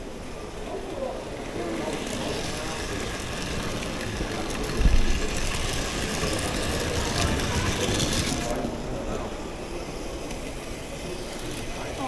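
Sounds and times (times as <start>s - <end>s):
toy train whirring: 0.0s - 9.2s, 9.8s - 12.0s.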